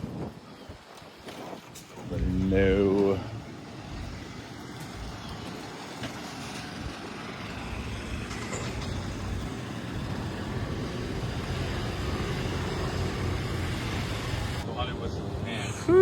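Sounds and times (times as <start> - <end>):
golf cart rumbling: 1.4 - 15.8.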